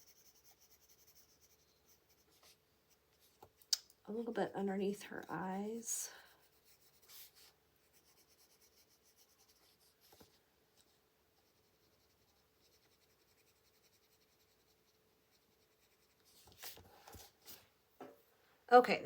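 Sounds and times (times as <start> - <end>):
pencil strokes on paper: 0.0 - 17.7
faint steady hum: 0.0 - 19.0.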